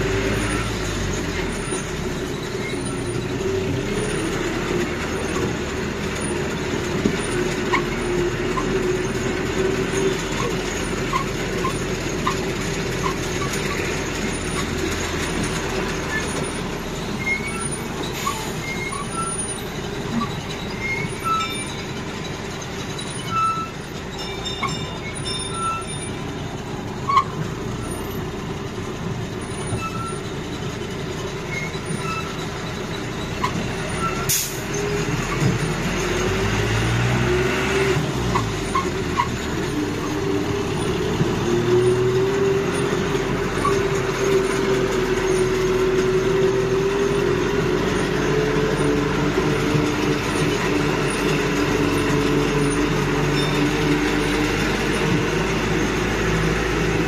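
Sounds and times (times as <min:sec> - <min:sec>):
short high squeaks: 0:00.0 - 0:28.3, 0:29.4 - 0:37.5, 0:38.3 - 0:56.8
vehicle engine droning: 0:00.0 - 0:57.0.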